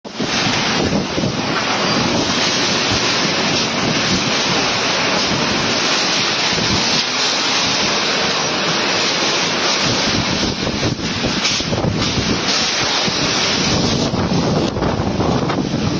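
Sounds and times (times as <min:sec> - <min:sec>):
strong wind on microphone: 0:00.1 - 0:15.9.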